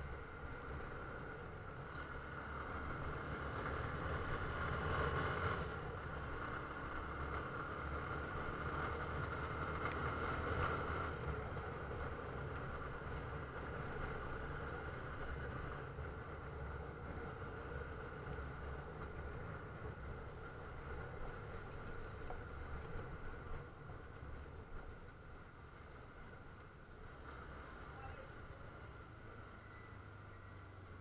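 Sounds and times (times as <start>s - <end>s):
vehicle engine and road hum: 0.0s - 31.0s.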